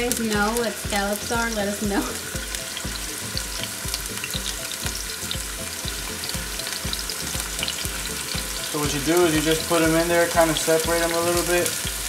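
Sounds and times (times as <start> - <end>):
scallops sizzling in a pan: 0.0 - 12.0.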